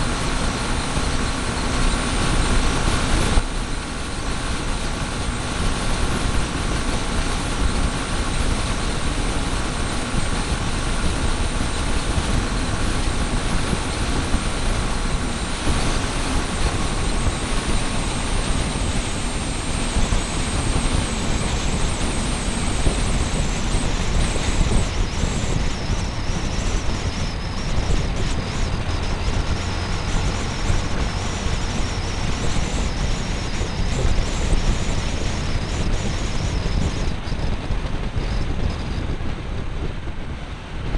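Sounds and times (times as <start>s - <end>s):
motorcycle engine: 0.0s - 40.9s
road noise: 0.0s - 40.9s
wind rushing: 5.4s - 40.9s.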